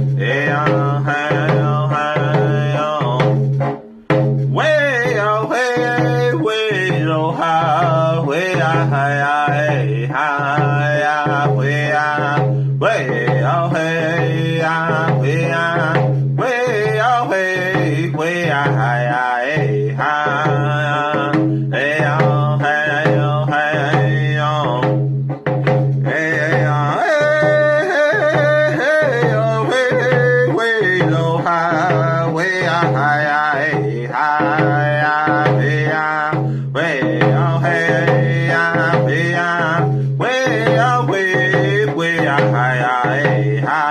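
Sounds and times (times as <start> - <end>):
man singing: 0.0 - 3.5, 4.5 - 43.9
hand drum beat: 0.0 - 43.9.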